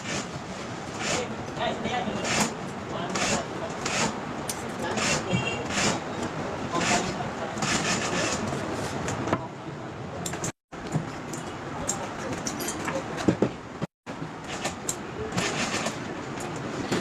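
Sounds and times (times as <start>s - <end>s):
workshop background din: 0.0s - 17.0s.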